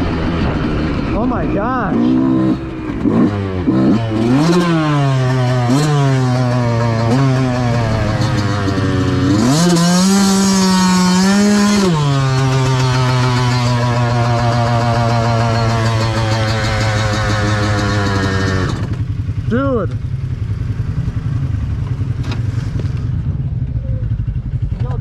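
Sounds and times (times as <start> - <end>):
dirt bike engine revving and idling: 0.0 - 25.0.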